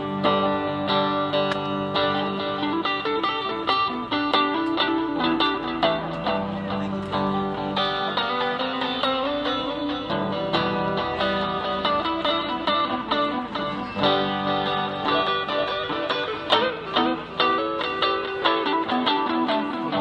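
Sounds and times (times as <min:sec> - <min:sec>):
electric guitar playing: 0:00.0 - 0:20.0.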